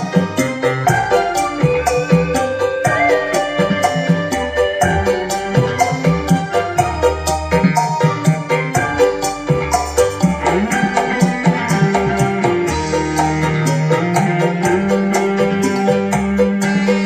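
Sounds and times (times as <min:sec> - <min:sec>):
music with drum beat through speakers: 0:00.0 - 0:17.0.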